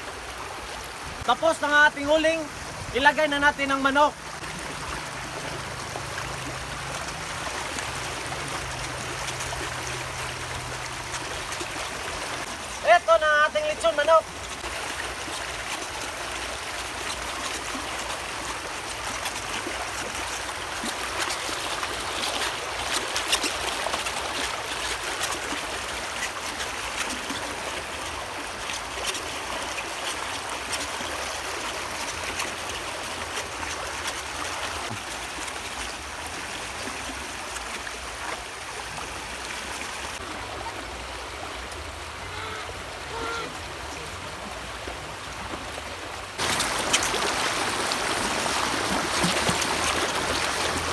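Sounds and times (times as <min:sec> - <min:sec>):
water rushing over stones: 0:00.0 - 0:50.9.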